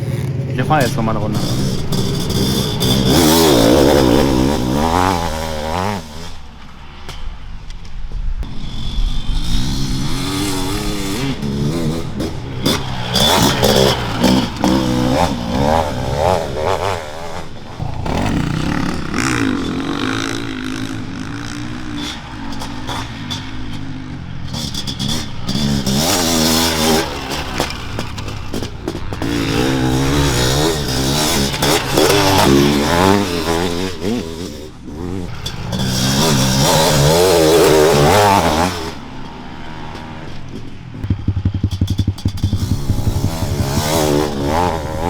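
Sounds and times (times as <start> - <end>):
motocross engine revving: 0.0 - 7.5, 8.4 - 45.0.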